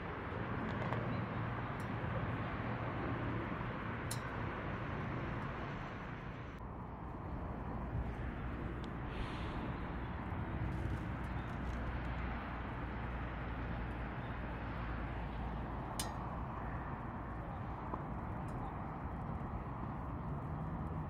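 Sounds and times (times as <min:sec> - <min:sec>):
fire crackle: 0:02.9 - 0:21.0.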